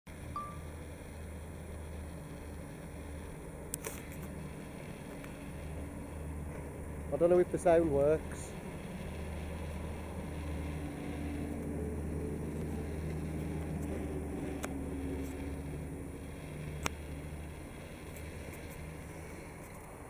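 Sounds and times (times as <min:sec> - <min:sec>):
low engine rumble: 0:00.1 - 0:20.0
drifting tones: 0:00.3 - 0:19.7.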